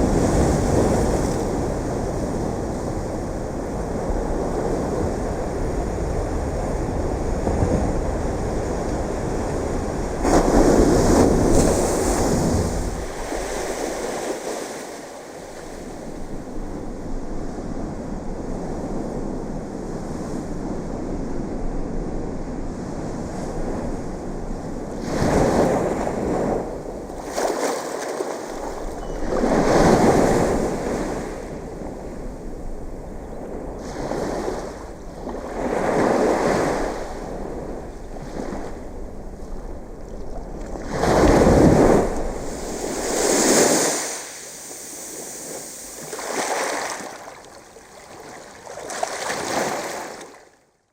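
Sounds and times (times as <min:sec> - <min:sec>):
surf surges: 0:00.0 - 0:18.0, 0:25.0 - 0:50.4
ocean waves washing ashore: 0:00.0 - 0:50.6.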